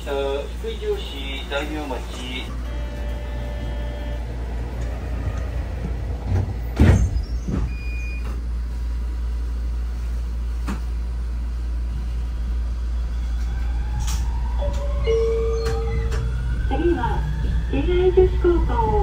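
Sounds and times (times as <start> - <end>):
tram equipment humming: 0.0 - 19.0.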